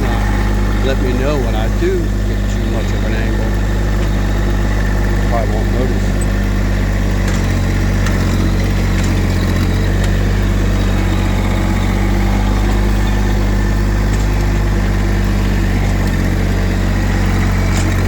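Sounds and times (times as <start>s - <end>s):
faint clicks and rattles: 0.0s - 18.0s
tractor diesel engine running: 0.0s - 18.0s.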